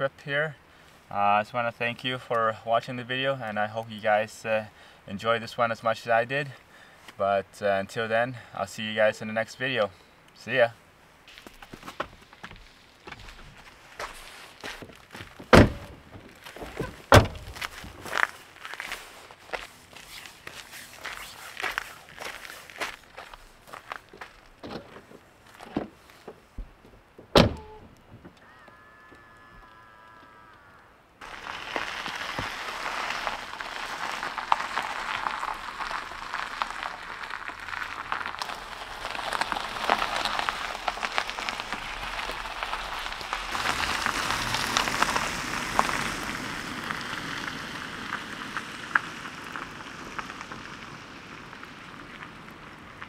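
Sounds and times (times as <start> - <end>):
tyres crunching over gravel: 1.0 - 27.0, 31.2 - 53.0.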